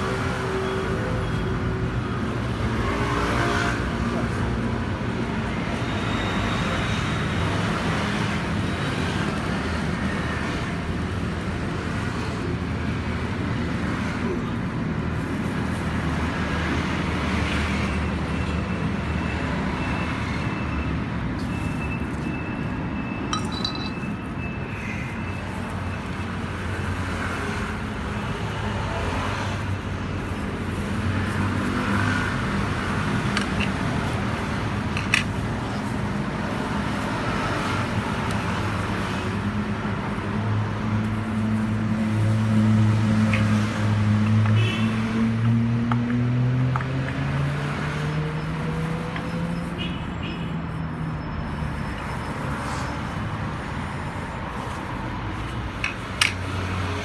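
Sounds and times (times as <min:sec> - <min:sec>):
road traffic drone: 0:00.0 - 0:57.0.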